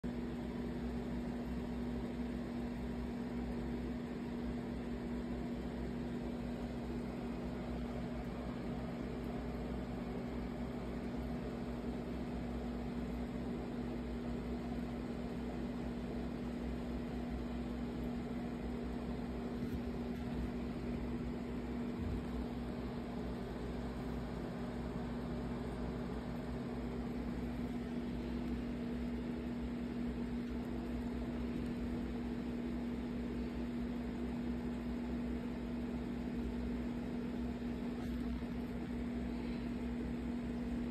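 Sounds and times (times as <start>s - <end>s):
machine hum with low tone: 0.0s - 40.9s.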